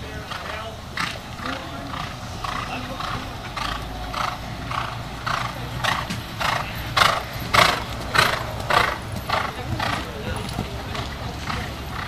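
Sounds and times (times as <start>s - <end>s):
horse cantering on sand: 0.0s - 12.0s.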